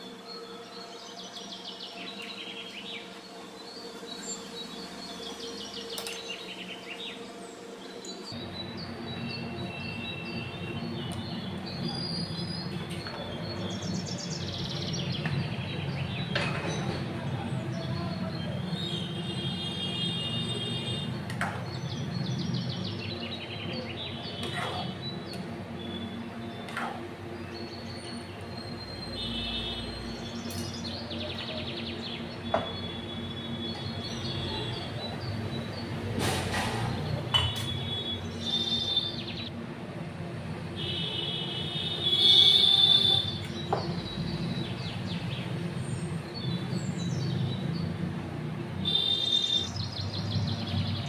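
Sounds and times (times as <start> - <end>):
birds chirping: 0.0 - 39.6, 40.8 - 51.0
steady background noise: 0.0 - 51.0.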